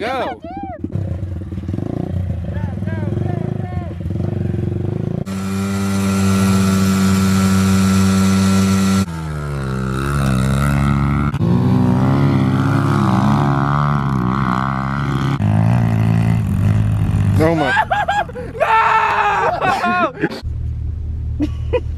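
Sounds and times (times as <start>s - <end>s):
dirt bike engines running: 0.0s - 20.5s.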